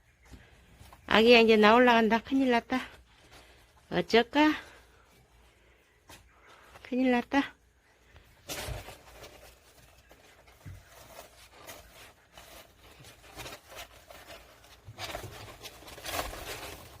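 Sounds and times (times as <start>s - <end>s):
soft rustling and scraping: 0.0s - 17.0s.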